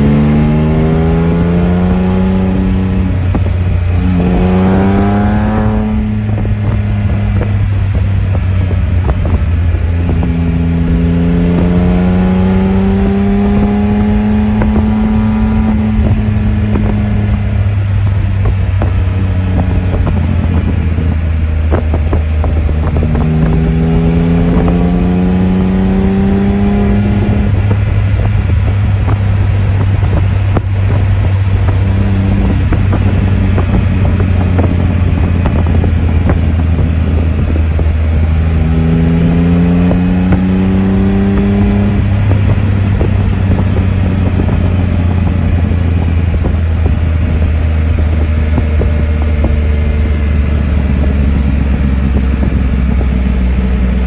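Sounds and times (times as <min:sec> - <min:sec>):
three-cylinder engine running: 0:00.0 - 0:54.0
wind buffeting on microphone: 0:00.0 - 0:54.0.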